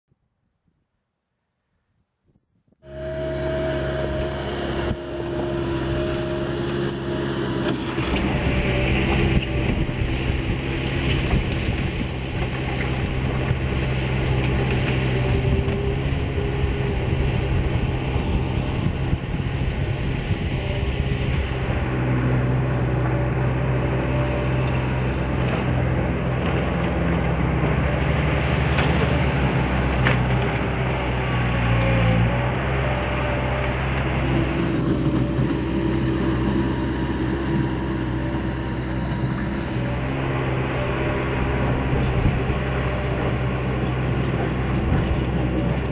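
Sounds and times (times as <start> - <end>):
loader diesel engine running: 2.8 - 45.9.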